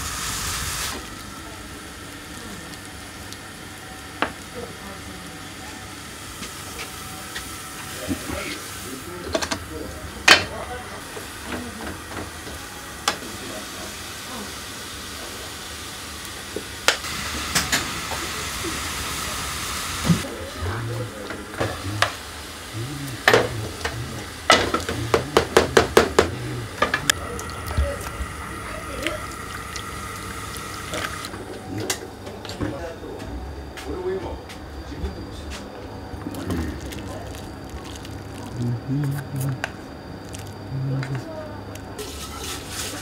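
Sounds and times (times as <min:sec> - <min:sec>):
gas burner hissing: 0:00.0 - 0:43.0.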